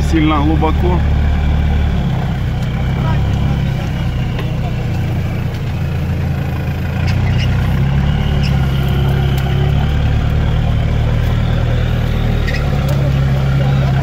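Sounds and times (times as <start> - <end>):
vehicle engine running at low revs: 0.0 - 14.0.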